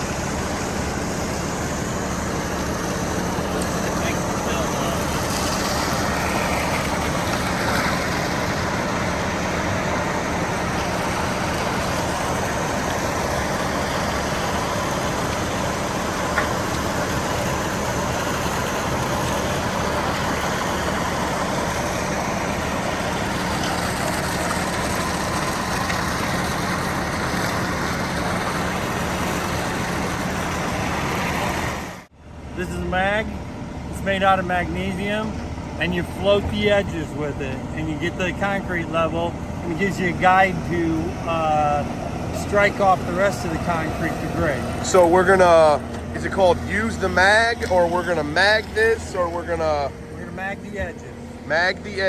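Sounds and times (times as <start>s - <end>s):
truck engine running: 0.0s - 52.0s.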